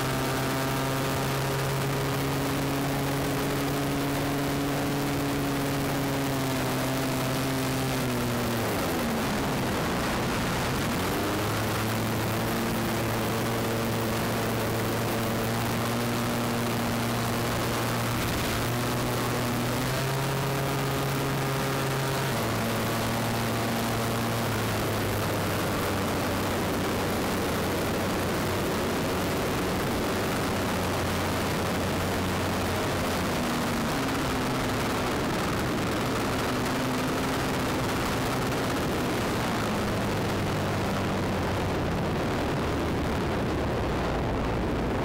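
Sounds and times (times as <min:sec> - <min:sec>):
propeller plane engine: 0:00.0 - 0:45.0
wind rush on microphone: 0:00.0 - 0:45.0.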